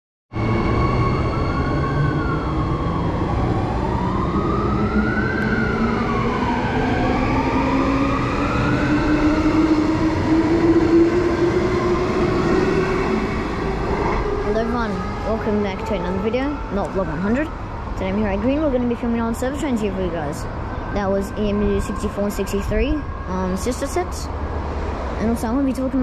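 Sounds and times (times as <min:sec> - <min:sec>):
siren-like wail: 0:00.4 - 0:24.4
wheels rumbling on rail: 0:00.4 - 0:26.0.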